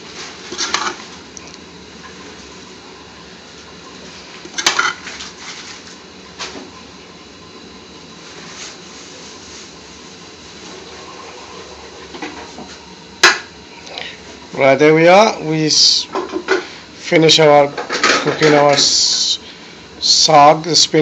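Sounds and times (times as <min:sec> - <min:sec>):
background hum: 0:00.0 - 0:21.0.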